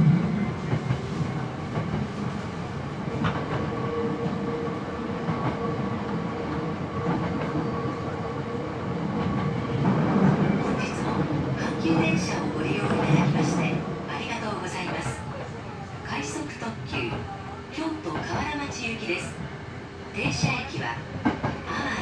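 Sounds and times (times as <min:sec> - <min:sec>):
electric train rumble: 0:00.0 - 0:22.0
steady train whine: 0:00.0 - 0:22.0.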